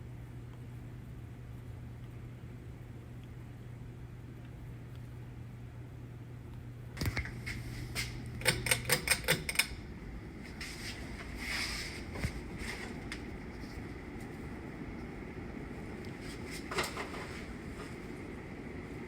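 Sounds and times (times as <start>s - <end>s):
ceiling fan motor humming: 0.0s - 19.0s.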